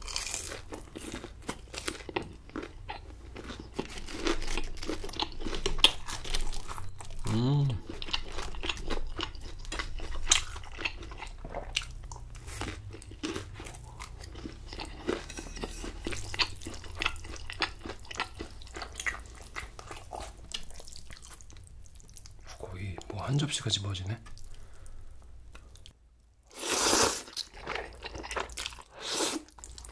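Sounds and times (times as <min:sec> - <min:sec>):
chewing crunchy fried food: 0:00.0 - 0:23.1, 0:24.2 - 0:29.9.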